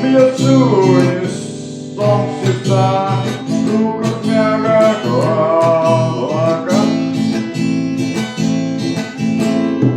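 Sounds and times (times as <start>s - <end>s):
acoustic guitar strumming: 0.0s - 9.9s.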